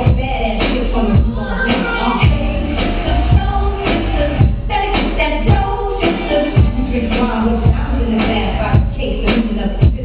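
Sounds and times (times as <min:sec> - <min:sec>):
music with singing over a beat: 0:00.0 - 0:10.0.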